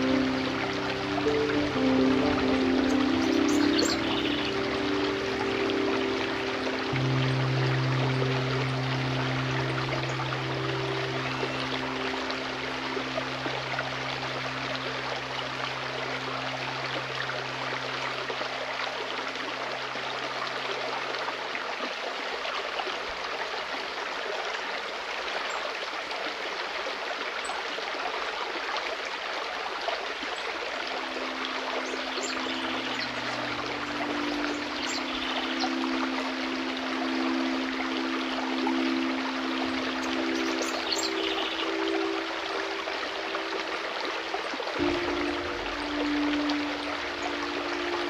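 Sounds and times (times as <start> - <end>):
soft background music: 0.0 - 22.0, 29.6 - 48.0
stream flowing: 0.0 - 48.0.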